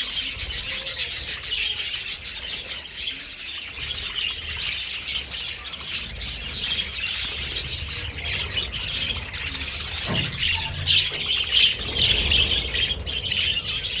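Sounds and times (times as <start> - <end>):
budgerigars chattering and squawking: 0.0 - 14.0.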